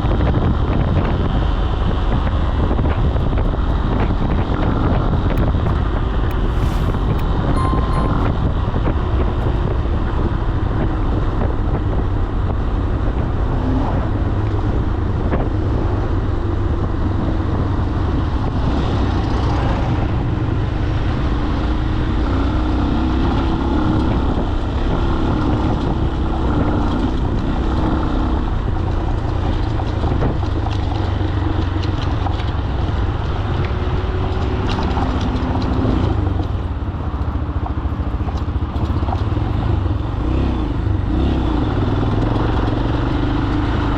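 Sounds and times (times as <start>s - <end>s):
road and wind noise: 0.0s - 43.9s.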